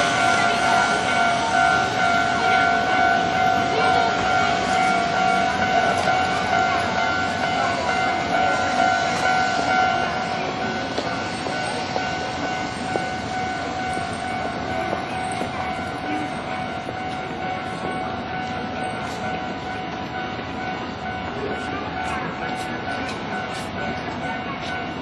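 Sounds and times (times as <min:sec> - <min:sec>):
level-crossing warning bell: 0:00.0 - 0:25.0.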